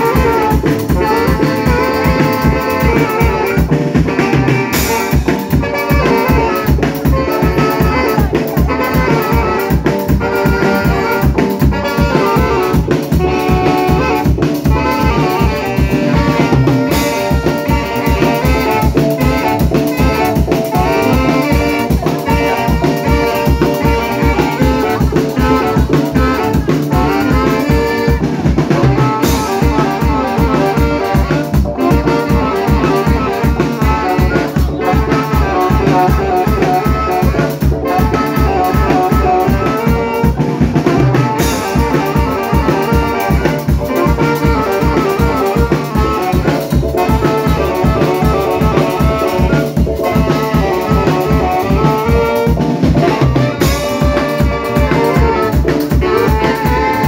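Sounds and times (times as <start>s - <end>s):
drum kit beat: 0.0s - 57.0s
trumpets and saxophone: 0.0s - 57.0s.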